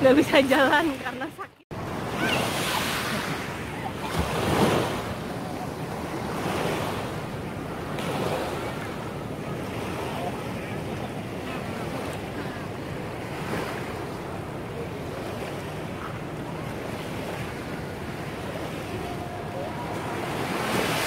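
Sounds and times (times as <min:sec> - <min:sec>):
small waves washing onto beach: 0:00.0 - 0:21.0.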